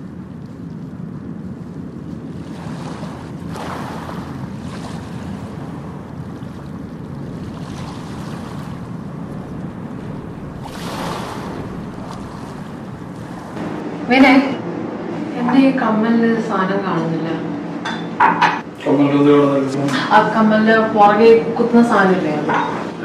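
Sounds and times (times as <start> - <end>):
low rumbling room noise: 0.0 - 23.0.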